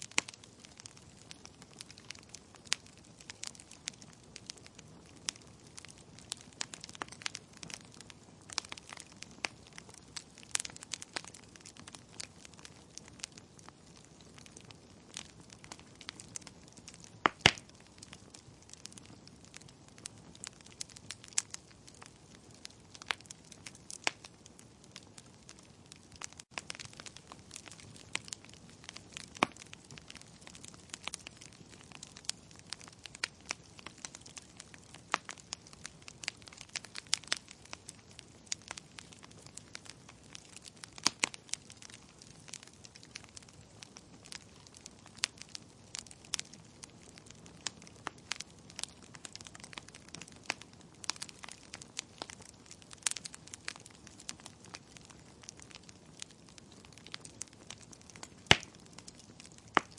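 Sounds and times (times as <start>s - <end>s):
fire crackling and popping: 0.0s - 59.9s
low steady fire hiss: 0.0s - 59.9s.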